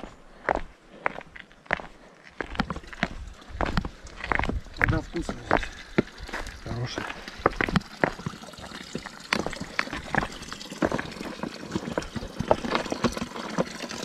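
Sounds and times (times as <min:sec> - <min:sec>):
water trickling and splashing: 0:02.6 - 0:14.0.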